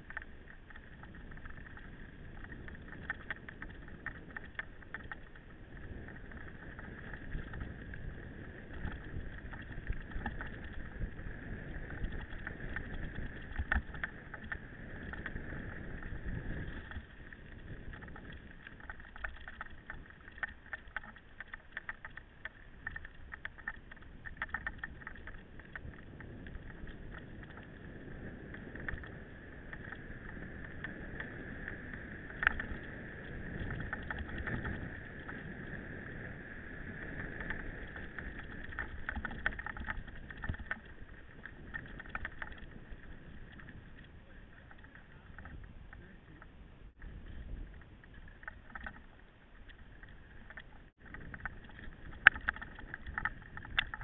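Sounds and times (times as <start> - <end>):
bike rattling and clicking: 0.0 - 54.0.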